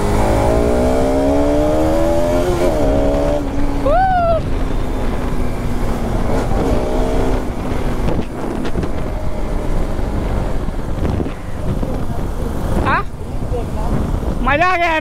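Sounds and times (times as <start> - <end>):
motorcycle engine: 0.0 - 14.4
wind on microphone: 0.0 - 15.0.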